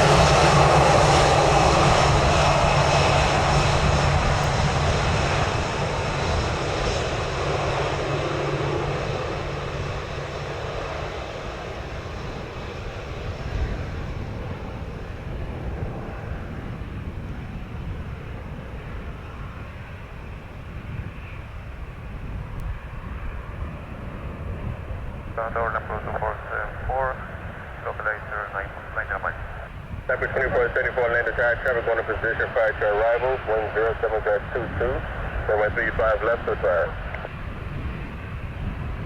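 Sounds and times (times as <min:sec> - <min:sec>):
jet engines roaring: 0:00.0 - 0:39.0
wind buffeting microphone: 0:00.0 - 0:39.0.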